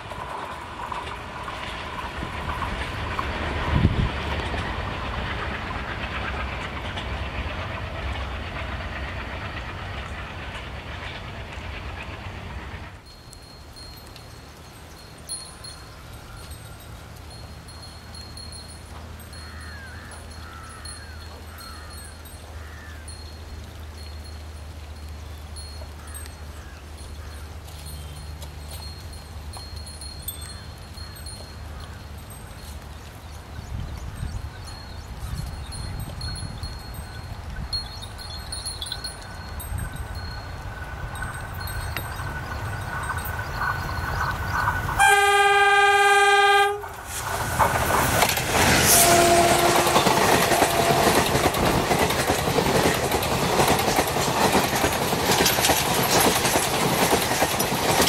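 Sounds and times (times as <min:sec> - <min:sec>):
distant diesel locomotive rumble: 0:00.0 - 0:58.0.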